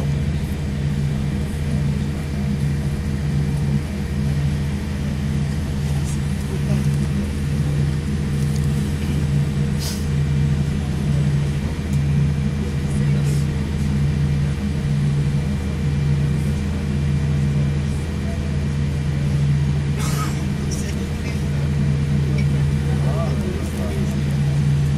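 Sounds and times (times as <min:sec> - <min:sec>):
airplane cabin drone: 0:00.0 - 0:24.9.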